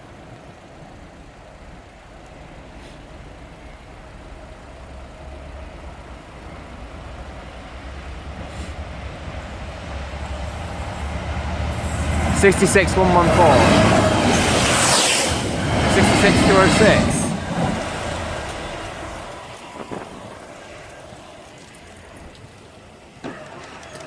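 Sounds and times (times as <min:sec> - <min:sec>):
diesel locomotive approaching: 0:00.0 - 0:24.0.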